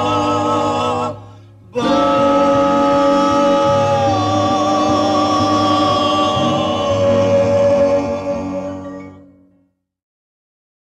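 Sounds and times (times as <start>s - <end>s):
vocal group singing harmony: 0.0s - 9.4s.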